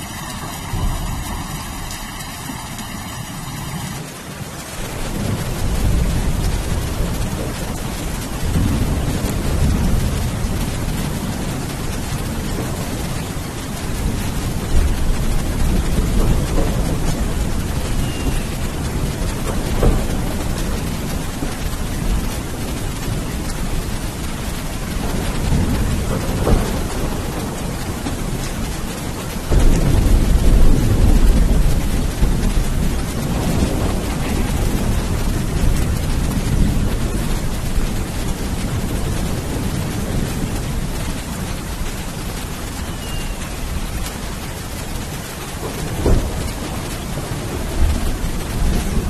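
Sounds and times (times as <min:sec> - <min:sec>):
steady rain: 0:00.0 - 0:49.0
thunder rumbling: 0:00.0 - 0:49.0.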